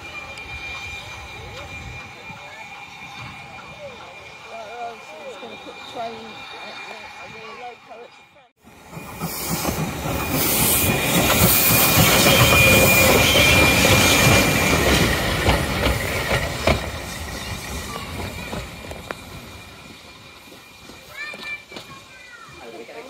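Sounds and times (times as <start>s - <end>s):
high wheel squeal: 0.0s - 23.0s
train wheel and rail noise: 0.0s - 23.0s.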